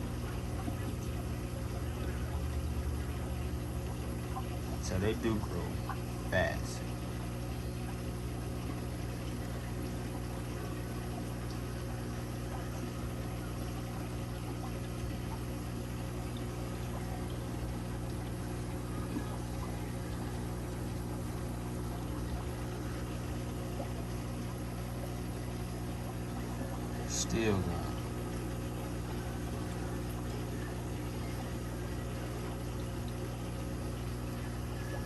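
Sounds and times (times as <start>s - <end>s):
aquarium pump hum: 0.0s - 35.0s
moving water: 0.0s - 35.0s.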